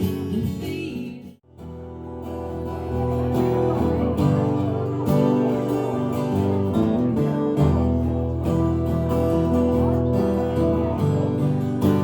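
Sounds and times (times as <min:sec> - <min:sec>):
acoustic guitar strumming: 0:01.5 - 0:12.0.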